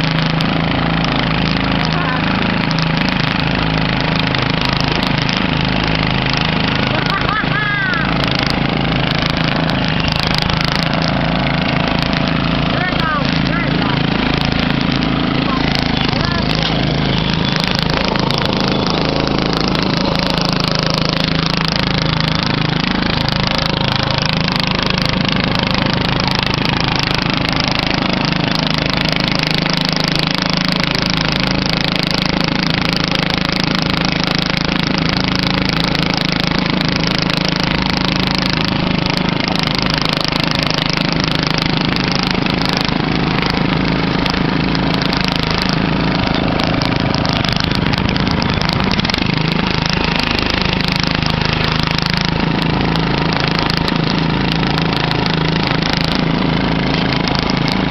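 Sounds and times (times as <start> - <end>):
riding lawn mower engines: 0.0 - 57.9.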